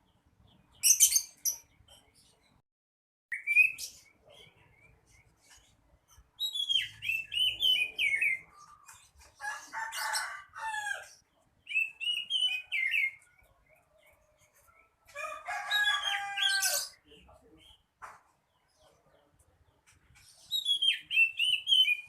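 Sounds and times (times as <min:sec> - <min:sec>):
bird singing: 0:03.3 - 0:17.9, 0:18.5 - 0:22.0.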